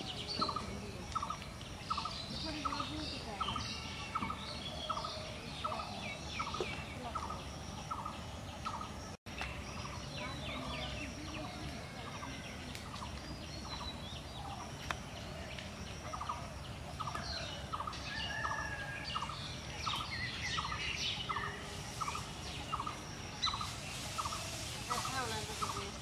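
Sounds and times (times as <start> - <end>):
higher chirps of small birds: 0.0 - 26.0.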